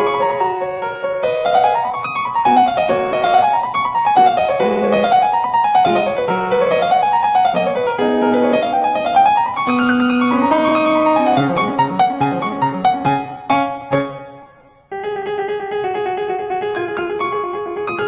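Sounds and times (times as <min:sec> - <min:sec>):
piano music with fast runs: 0:00.0 - 0:18.0.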